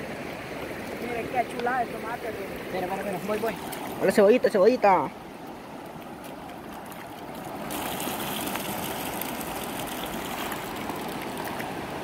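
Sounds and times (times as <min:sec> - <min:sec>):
shallow river flowing: 0:00.0 - 0:12.0.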